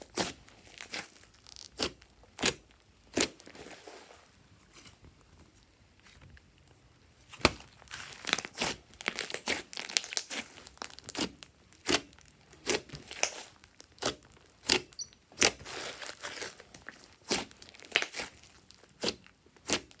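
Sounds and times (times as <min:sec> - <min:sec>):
slime crackling and popping: 0:00.0 - 0:03.5, 0:06.6 - 0:20.0.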